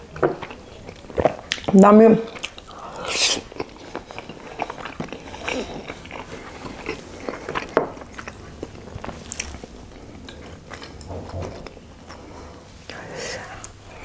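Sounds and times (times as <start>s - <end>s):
chewing with wet mouth smacks: 0.1s - 13.8s.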